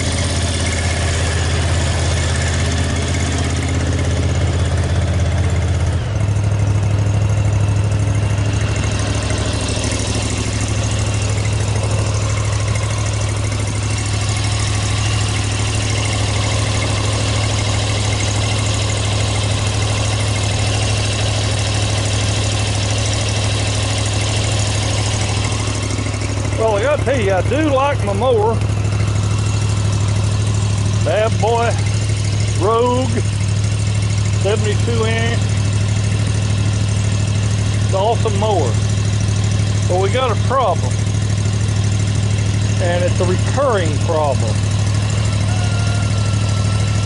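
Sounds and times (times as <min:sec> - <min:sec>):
mower engine idling: 0:00.0 - 0:47.0.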